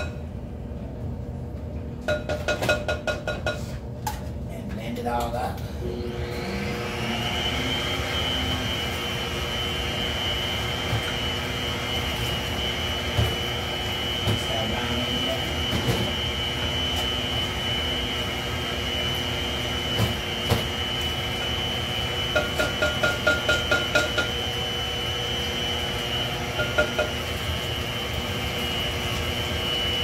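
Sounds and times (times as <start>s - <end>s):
stand mixer whining: 5.8s - 30.0s.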